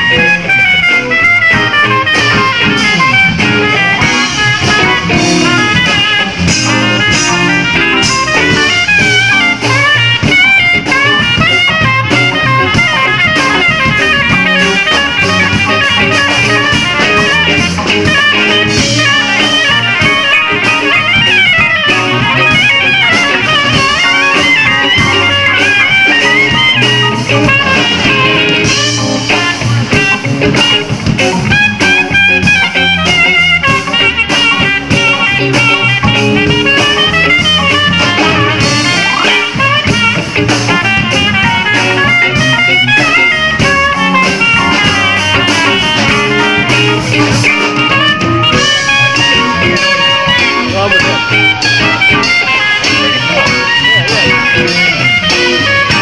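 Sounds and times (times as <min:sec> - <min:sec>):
drum kit: 0:00.0 - 0:56.0
electric guitar: 0:00.0 - 0:56.0
organ: 0:00.0 - 0:56.0
soprano saxophone: 0:00.0 - 0:56.0.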